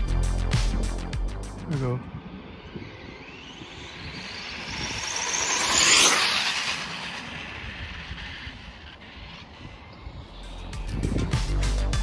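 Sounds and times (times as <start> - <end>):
rc car motor whine: 0.2 - 12.0.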